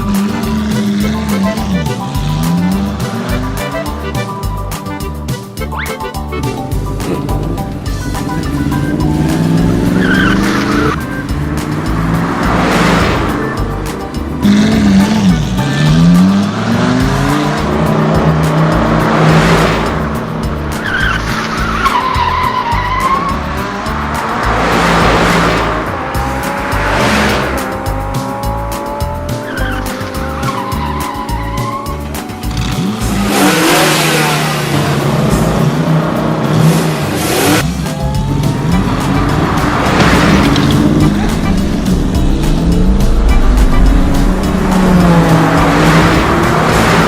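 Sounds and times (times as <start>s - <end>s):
tyres squealing: 0.0s - 34.6s, 37.2s - 47.0s
background music with steady beat: 0.0s - 47.0s
cartoon car engines revving: 0.0s - 47.0s
cars whooshing past: 6.2s - 47.0s.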